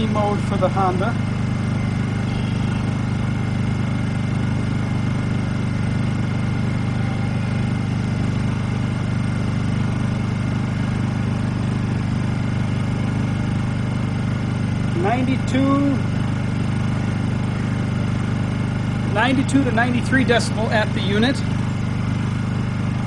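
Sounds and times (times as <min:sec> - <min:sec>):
generator engine humming: 0:00.0 - 0:23.0.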